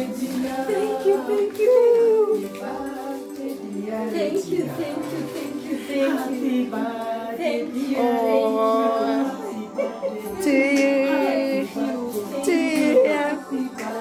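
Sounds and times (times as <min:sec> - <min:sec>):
women singing with vibrato: 0:00.0 - 0:14.0.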